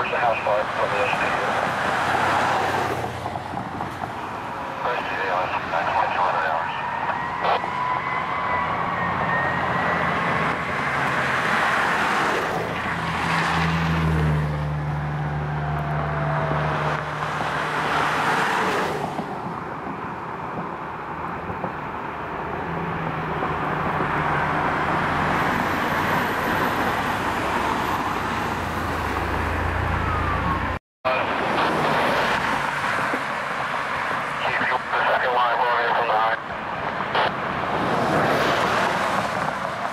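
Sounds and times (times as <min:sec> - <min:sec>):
sirens wailing: 0:00.0 - 0:03.1, 0:04.2 - 0:19.0, 0:19.7 - 0:39.9
fire engines droning: 0:00.0 - 0:39.9.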